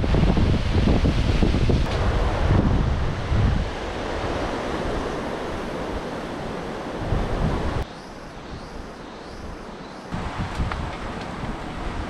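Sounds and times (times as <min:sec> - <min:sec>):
wind buffeting microphone: 0:00.0 - 0:07.9, 0:08.5 - 0:12.0.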